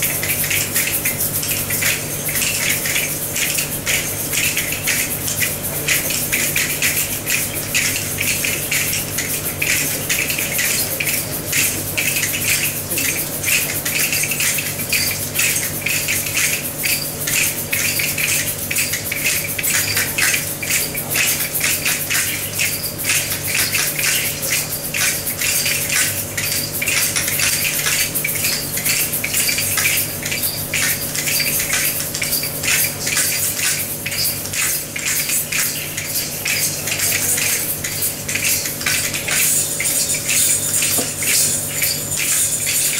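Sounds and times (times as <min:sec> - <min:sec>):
hand percussion clattering: 0:00.0 - 0:42.9.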